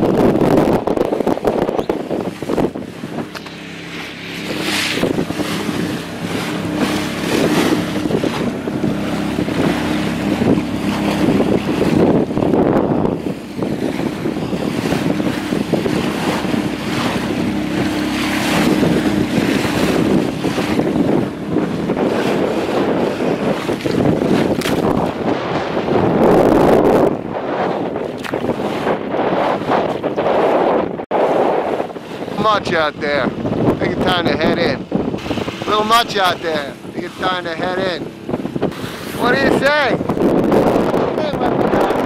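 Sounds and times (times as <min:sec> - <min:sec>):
water splashing against hull: 0:00.0 - 0:42.0
wind buffeting microphone: 0:00.0 - 0:42.0.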